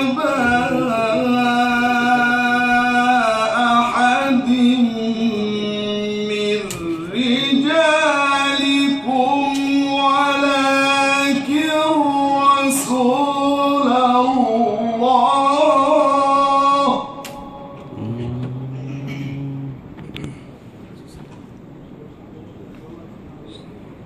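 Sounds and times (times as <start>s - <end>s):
man chanting recitation: 0.0s - 21.2s.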